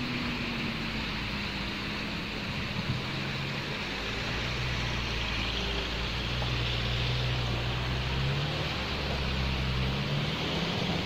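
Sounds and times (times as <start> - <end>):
truck engines running: 0.0 - 11.0.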